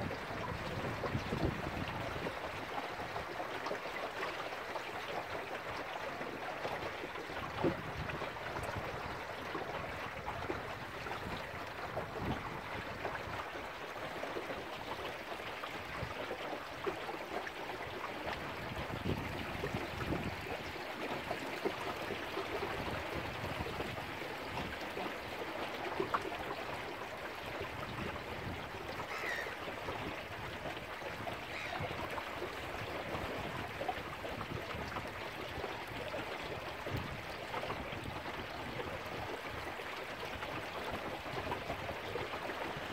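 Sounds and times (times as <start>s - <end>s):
water rushing along a hull: 0.0s - 42.9s.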